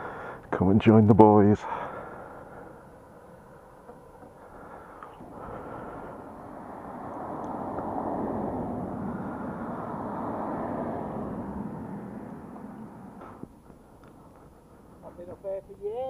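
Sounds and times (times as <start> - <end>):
road vehicle passing: 1.6 - 15.4.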